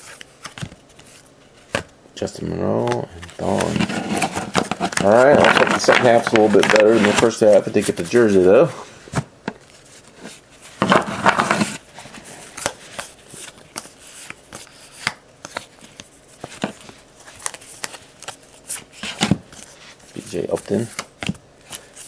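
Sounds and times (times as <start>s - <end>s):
cards rustling against each other: 2.8s - 8.7s, 9.6s - 22.0s.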